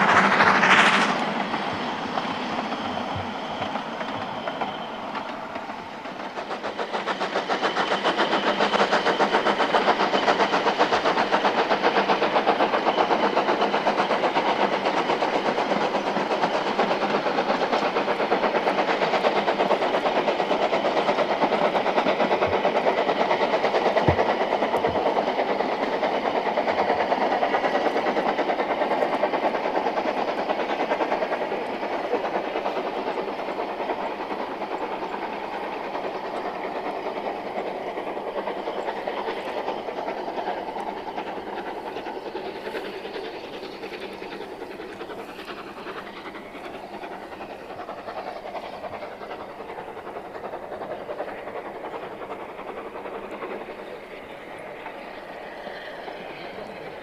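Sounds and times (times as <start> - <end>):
coach wheels on rails: 0.0 - 57.0
steam locomotive exhaust: 0.0 - 57.0.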